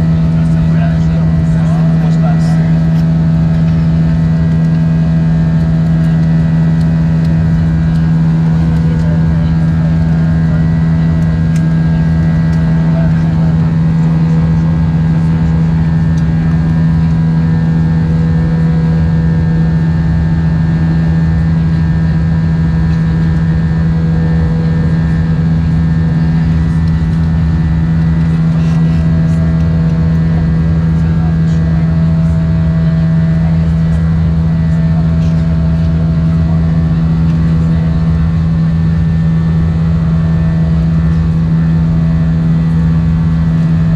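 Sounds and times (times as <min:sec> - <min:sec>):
airplane cabin engine drone: 0:00.0 - 0:43.9.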